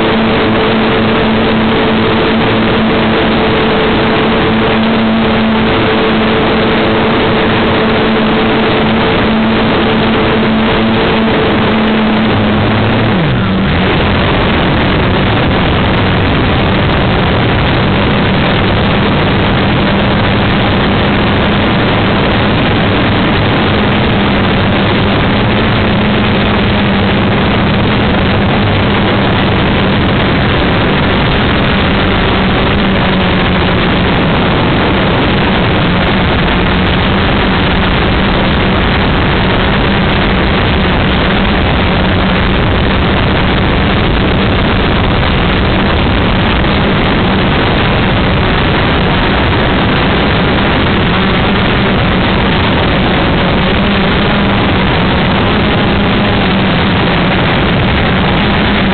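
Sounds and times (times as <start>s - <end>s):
rushing airflow: 0.0s - 58.9s
small aircraft engine drone: 0.0s - 58.9s
steady low hum: 0.0s - 58.9s.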